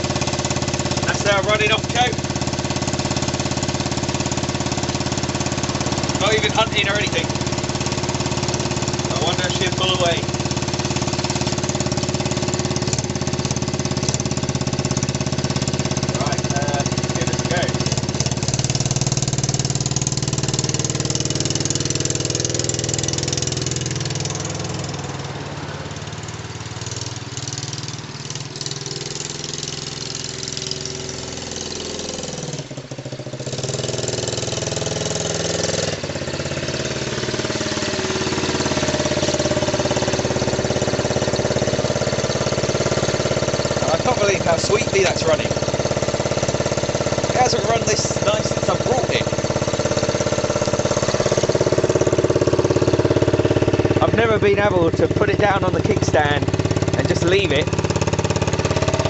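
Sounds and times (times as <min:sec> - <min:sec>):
dirt bike engine idling: 0:00.0 - 0:59.0.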